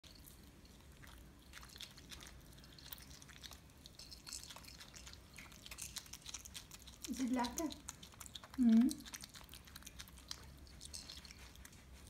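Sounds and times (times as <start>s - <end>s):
monkey chewing: 0.0s - 12.0s.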